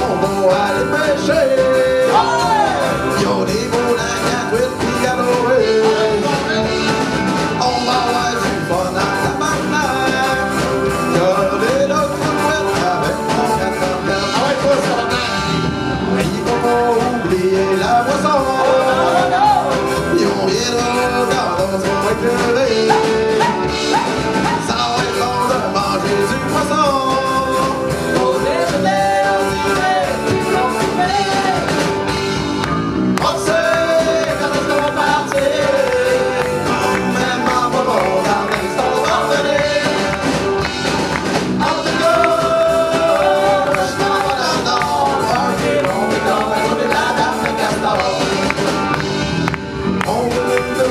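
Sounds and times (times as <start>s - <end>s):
person singing into microphone: 0.0s - 15.4s, 16.1s - 31.8s, 33.2s - 40.7s, 41.6s - 48.9s, 50.0s - 50.9s
drums: 0.0s - 50.9s
electric bass: 0.0s - 50.9s
guitar: 0.0s - 50.9s.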